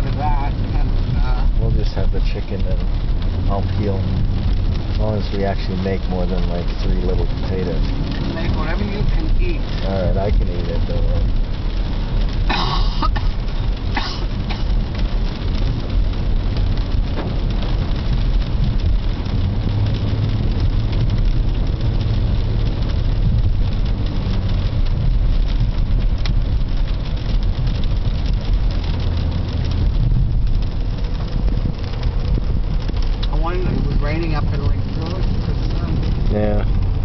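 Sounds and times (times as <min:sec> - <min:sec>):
car engine and tyre rumble: 0:00.0 - 0:37.0
tyres hissing on wet road: 0:00.0 - 0:37.0.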